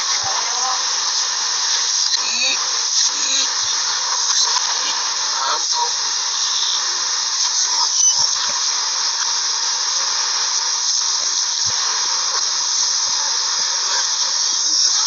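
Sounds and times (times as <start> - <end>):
loud steady hiss: 0.0 - 15.0.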